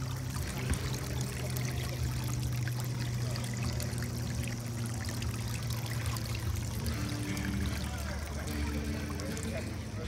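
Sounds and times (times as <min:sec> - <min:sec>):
water trickling into pond: 0:00.0 - 0:10.0.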